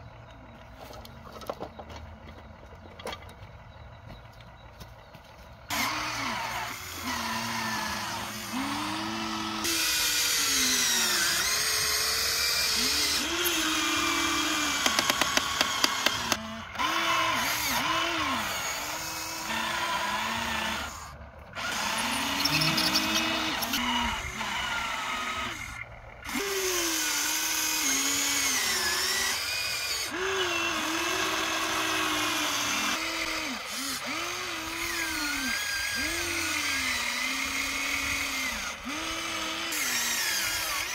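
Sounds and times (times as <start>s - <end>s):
small electric motors whining: 3.4s - 40.9s.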